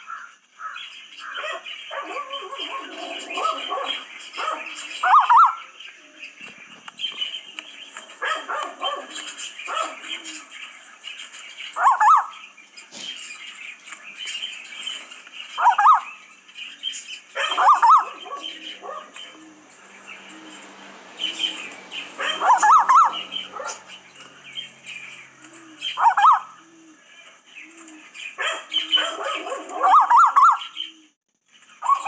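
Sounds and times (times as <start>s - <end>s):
bird wavering calls: 0.0s - 31.2s
bird chattering: 0.7s - 26.7s.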